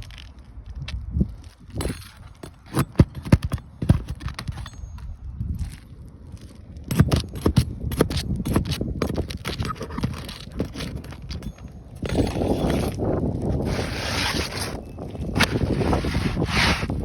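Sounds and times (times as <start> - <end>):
footsteps on shingle roof: 0.0 - 17.0
wind on microphone: 3.1 - 17.0.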